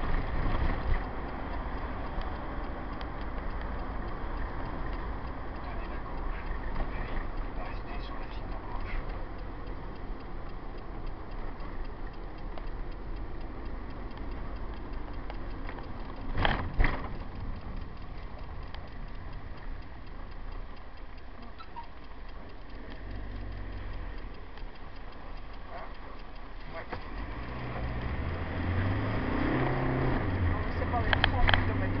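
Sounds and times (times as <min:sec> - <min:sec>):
engine and road rumble: 0:00.0 - 0:32.0
light ticking: 0:00.0 - 0:32.0.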